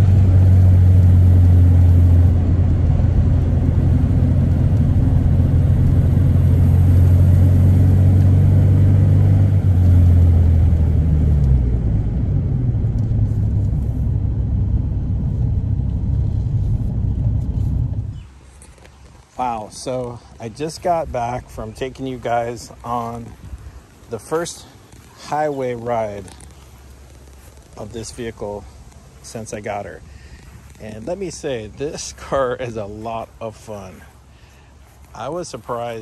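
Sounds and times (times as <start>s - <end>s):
car engine hum: 0.0s - 36.0s
tyre and wind noise: 0.0s - 36.0s.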